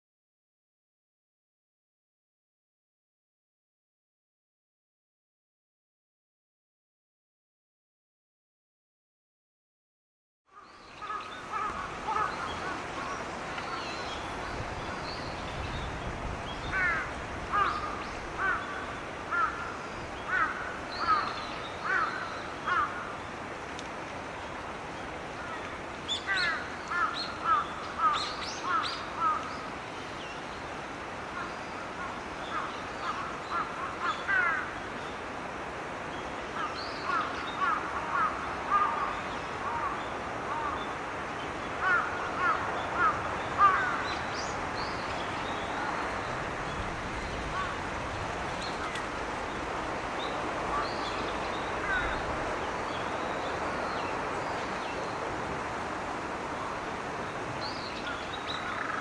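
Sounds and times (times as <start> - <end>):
steady background hiss: 10.5 - 59.0.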